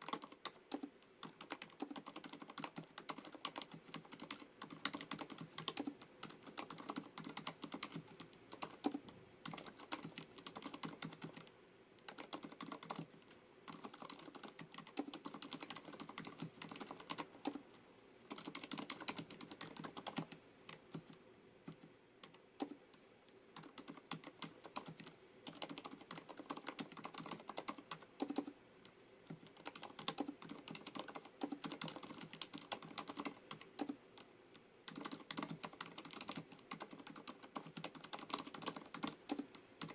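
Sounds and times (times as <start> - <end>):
fast typing on keyboard: 0.0 - 17.6, 18.3 - 22.8, 23.6 - 28.6, 29.3 - 39.9.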